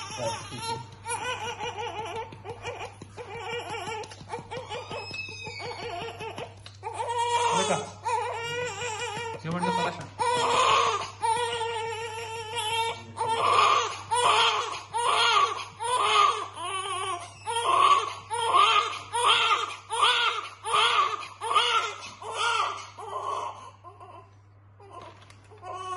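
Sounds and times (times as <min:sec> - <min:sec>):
infant crying: 0:00.0 - 0:25.9.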